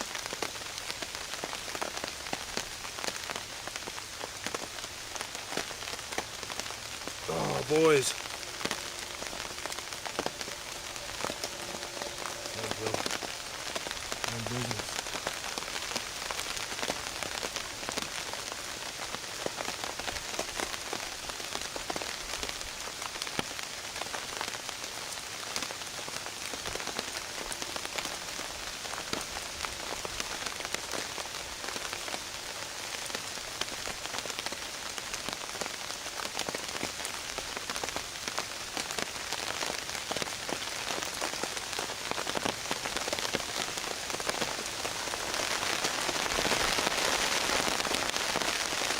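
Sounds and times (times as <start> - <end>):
rain falling on a tarp: 0.0 - 48.9.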